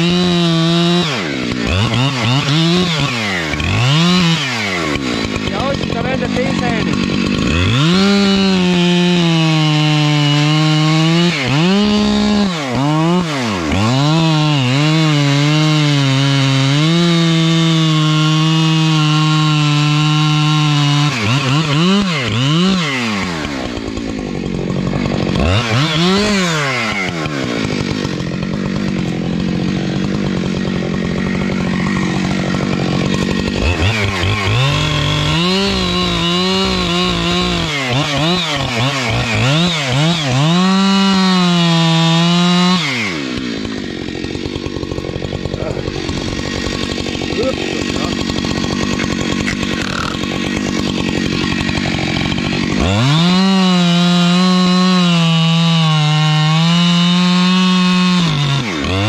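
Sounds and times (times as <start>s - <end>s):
chainsaw cutting through tree trunk: 0.0s - 59.0s.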